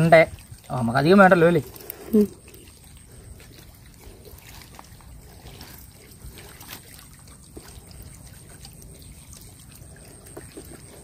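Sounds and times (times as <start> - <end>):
small splashes: 0.0 - 11.0
water trickling and dripping: 0.0 - 11.0.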